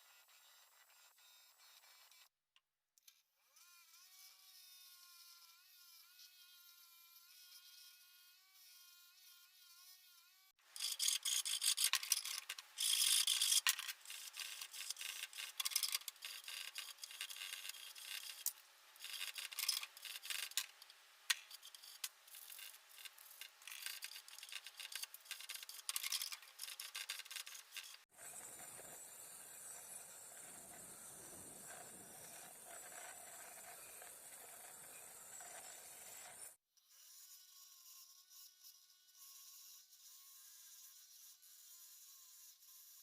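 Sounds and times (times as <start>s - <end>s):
rasping abrasive hand work: 3.6s - 43.0s.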